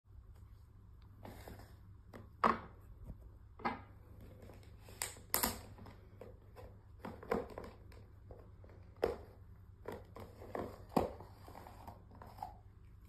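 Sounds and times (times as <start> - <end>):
faint low room hum: 0.1 - 13.0.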